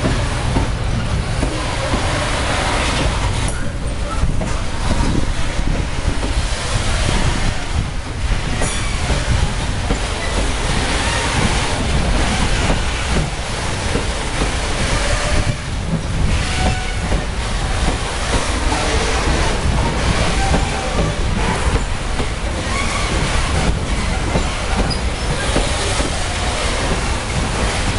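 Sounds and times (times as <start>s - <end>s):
freight train wheels rumbling: 0.0s - 27.9s.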